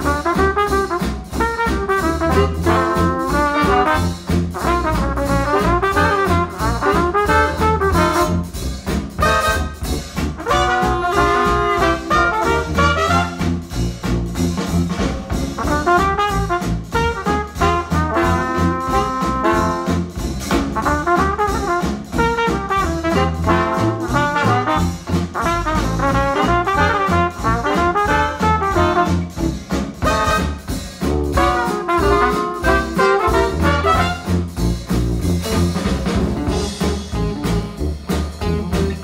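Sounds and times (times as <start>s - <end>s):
retro jazz with trombone and trumpet: 0.0s - 39.0s.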